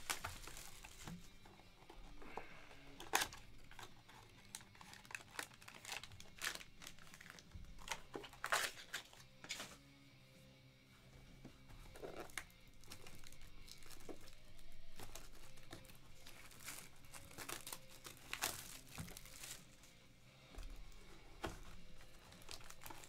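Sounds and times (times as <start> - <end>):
cardboard and plastic wrap rustling: 0.0 - 9.8, 11.0 - 23.0
faint background music: 0.0 - 23.0.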